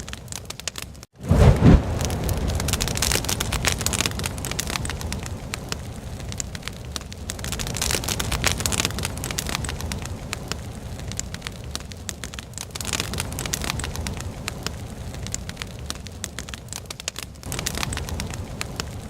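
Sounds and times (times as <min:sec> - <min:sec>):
fireplace fire crackling: 0:00.0 - 0:19.0
fire hissing: 0:01.1 - 0:19.0.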